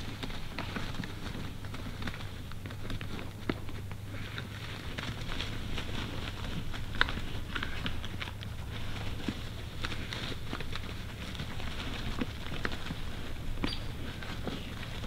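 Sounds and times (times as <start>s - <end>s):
hooves shuffling in dry leaves: 0.0s - 15.0s
steady low hum: 0.0s - 15.0s.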